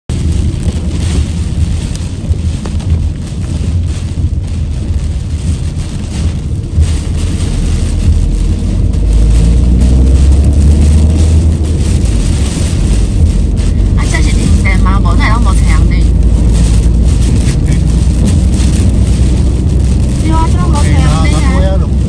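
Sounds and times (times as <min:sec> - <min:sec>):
wind buffeting a moving car: 0:00.0 - 0:22.0
rain hissing on wet road: 0:00.1 - 0:22.0.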